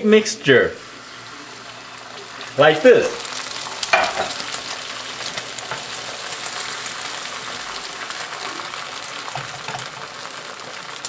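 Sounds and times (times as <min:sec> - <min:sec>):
egg sizzling in frying pan: 0:00.8 - 0:11.0.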